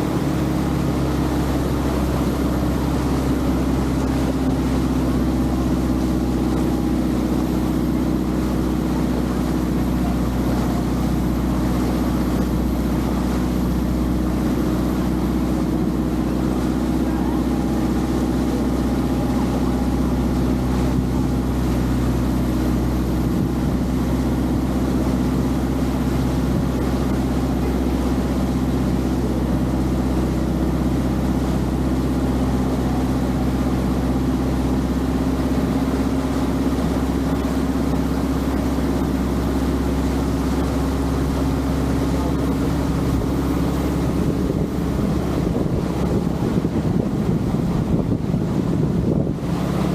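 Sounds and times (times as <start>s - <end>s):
boat engine running: 0.0s - 49.9s
water rushing past: 0.0s - 49.9s.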